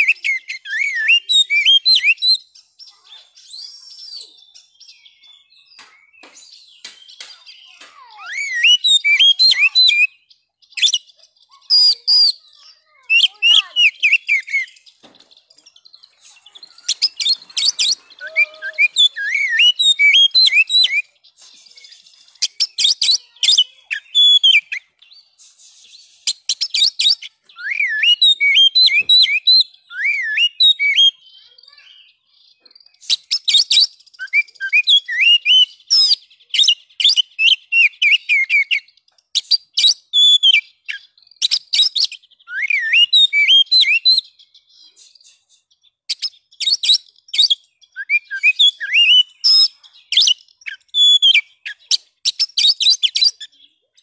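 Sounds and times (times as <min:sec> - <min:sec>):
bird singing whistles and clicks: 0:00.0 - 0:31.9, 0:32.6 - 0:54.0.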